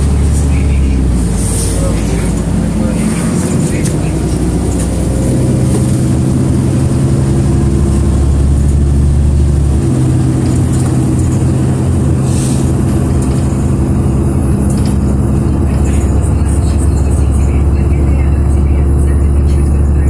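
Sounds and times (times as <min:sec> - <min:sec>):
bus engine humming: 0:00.0 - 0:20.0
road noise: 0:00.0 - 0:20.0.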